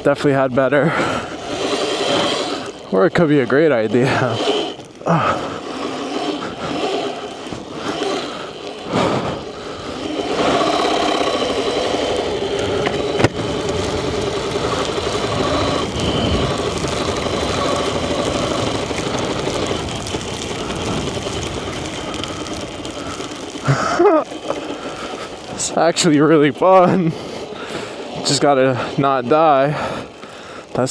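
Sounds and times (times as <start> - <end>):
electric motor whine: 0.0 - 30.9
tyre and wind noise: 0.0 - 30.9.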